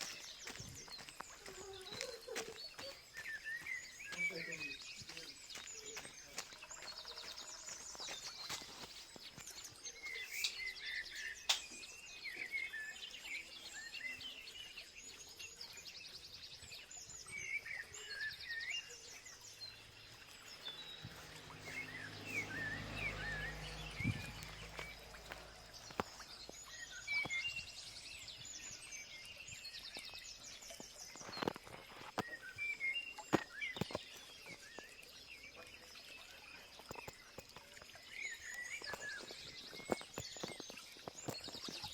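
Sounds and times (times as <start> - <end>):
birds chirping and trilling: 0.0 - 41.9.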